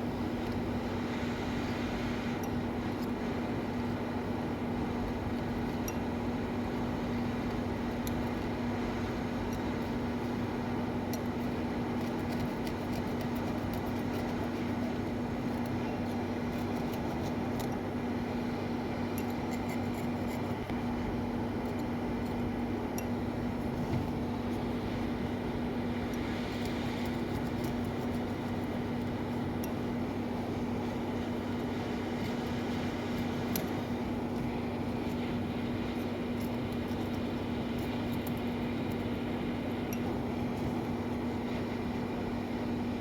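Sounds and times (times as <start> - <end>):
fan humming: 0.0 - 43.0.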